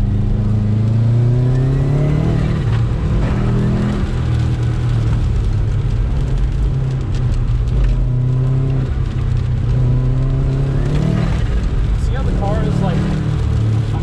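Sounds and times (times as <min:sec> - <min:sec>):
turbocharged car engine revving: 0:00.0 - 0:14.0.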